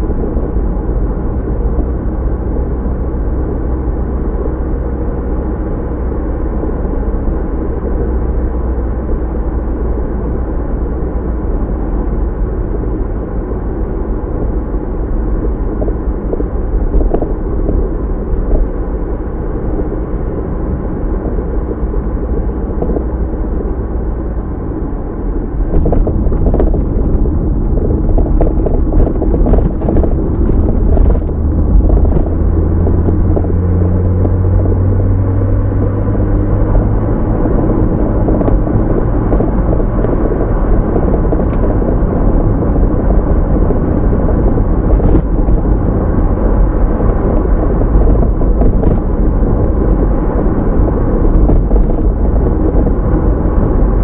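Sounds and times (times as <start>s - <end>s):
car tyres and engine rumble: 0.0s - 54.0s
low engine note: 0.0s - 54.0s.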